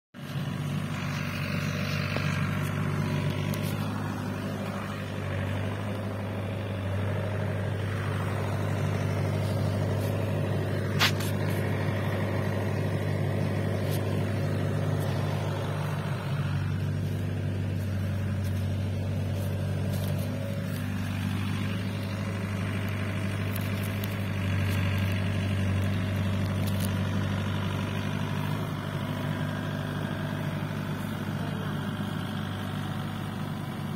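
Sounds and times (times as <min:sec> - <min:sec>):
diesel engine humming: 0:00.2 - 0:33.9.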